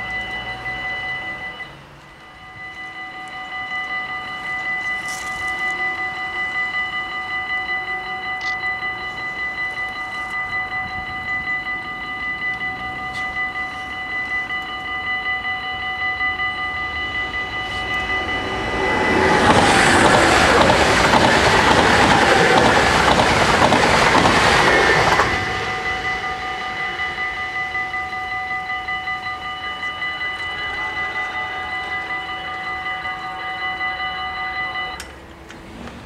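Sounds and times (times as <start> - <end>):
level crossing bells ringing: 0.0 - 35.8
train rushing past: 0.0 - 36.0.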